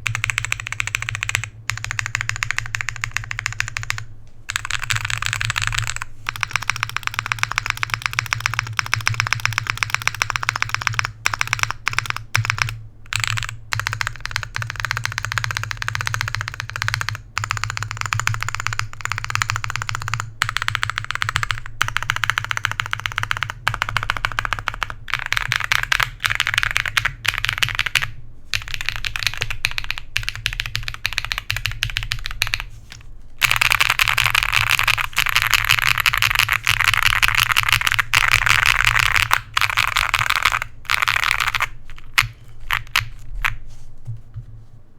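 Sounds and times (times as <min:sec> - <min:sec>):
fast typing on mechanical keyboard: 0:00.0 - 0:43.7.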